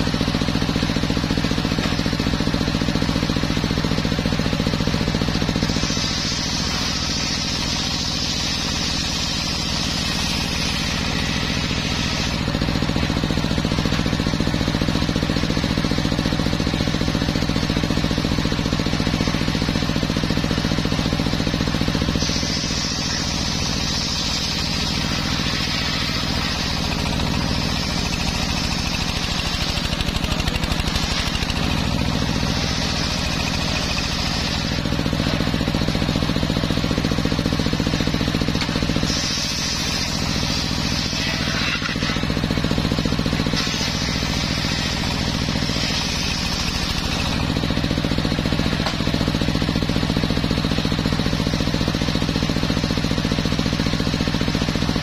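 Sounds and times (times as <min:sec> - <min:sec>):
saw blade cutting timber whine: 0:00.0 - 0:55.0
sawmill machine drone: 0:00.0 - 0:55.0.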